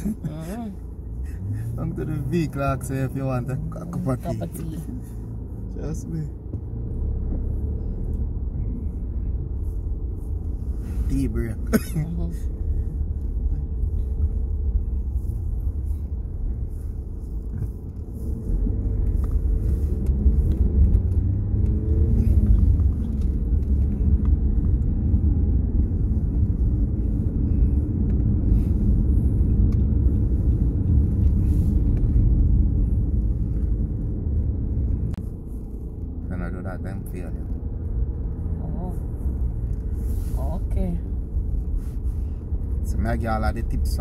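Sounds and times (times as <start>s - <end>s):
car engine from inside cabin: 0.0s - 44.0s.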